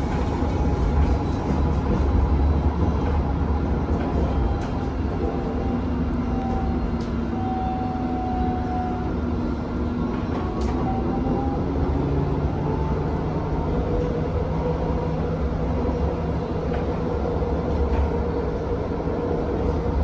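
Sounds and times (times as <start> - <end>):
tram running rumble: 0.0 - 20.0.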